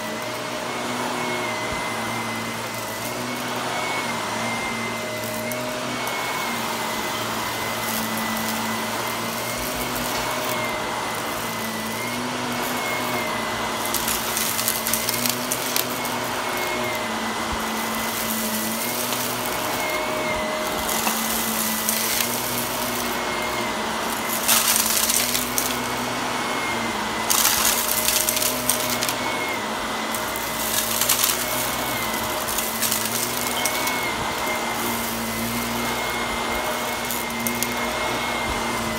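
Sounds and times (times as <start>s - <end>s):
debris crackling in vacuum: 0.0s - 38.9s
vacuum cleaner motor whine: 0.0s - 38.9s.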